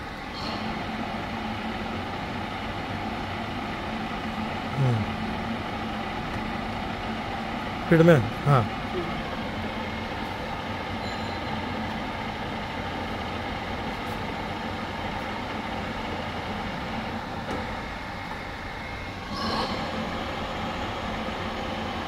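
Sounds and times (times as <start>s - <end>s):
drilling machine humming: 0.0s - 22.0s.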